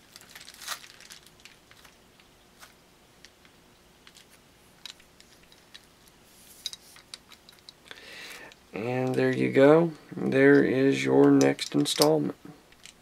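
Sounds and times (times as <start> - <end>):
light clicks and taps of metal parts: 1.4 - 9.5, 10.4 - 13.0.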